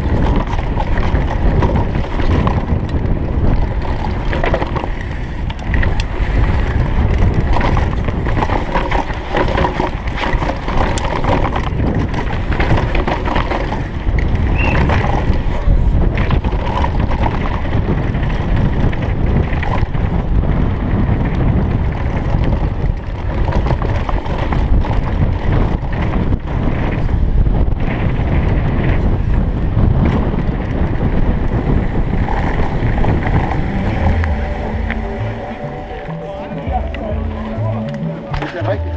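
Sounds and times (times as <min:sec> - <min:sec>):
bike rattling and knocking: 0:00.0 - 0:38.8
bike tyres rumbling on dirt: 0:00.0 - 0:38.9
wind rushing over microphone: 0:00.0 - 0:38.9.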